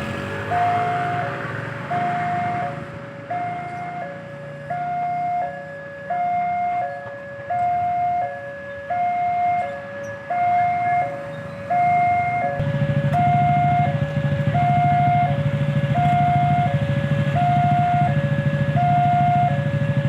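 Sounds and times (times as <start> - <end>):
two-tone hi-lo warning siren: 0.0 - 20.0.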